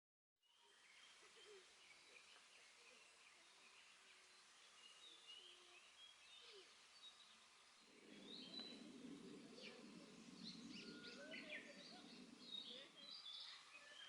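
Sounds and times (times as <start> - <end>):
low soft murmur: 0.6 - 14.0.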